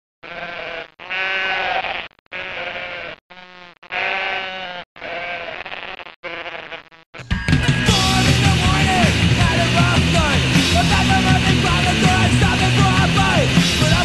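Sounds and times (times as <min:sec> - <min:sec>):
sheep bleating: 0:00.2 - 0:13.4.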